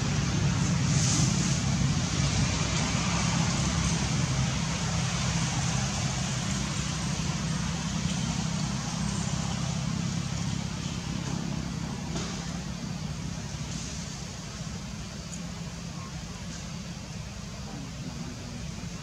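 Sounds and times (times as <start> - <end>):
hiss: 0.0 - 19.0
outdoor background rumble: 0.0 - 19.0.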